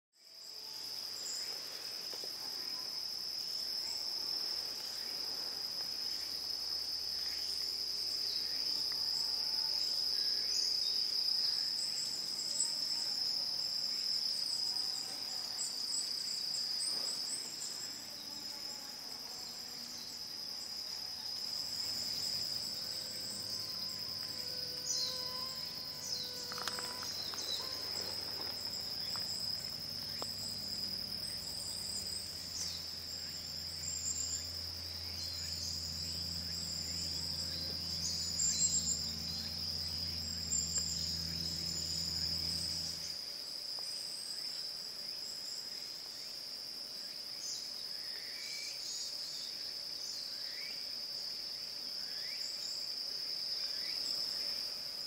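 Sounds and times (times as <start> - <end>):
insects trilling: 0.2 - 55.0.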